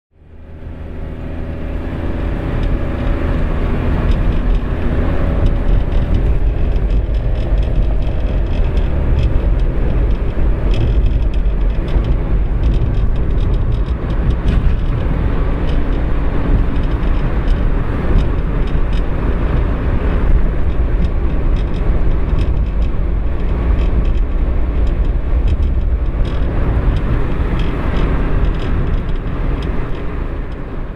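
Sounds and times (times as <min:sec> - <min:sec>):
car cabin low rumble: 0:00.3 - 0:30.9
dashboard rattle clicks: 0:02.5 - 0:30.7.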